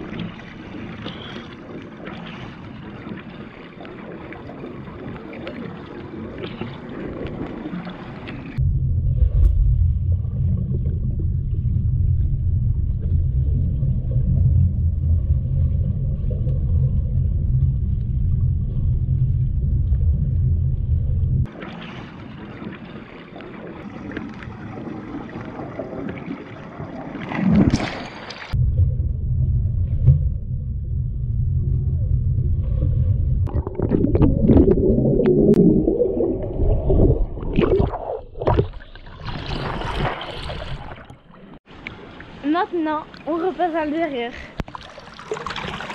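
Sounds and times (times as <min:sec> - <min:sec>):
muffled underwater rumble: 0:00.0 - 0:27.1, 0:28.5 - 0:39.1
water splashing: 0:00.0 - 0:29.0, 0:32.4 - 0:45.9.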